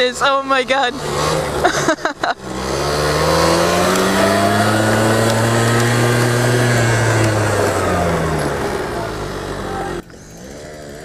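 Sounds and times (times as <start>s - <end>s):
small quad engine running: 0.0s - 11.0s.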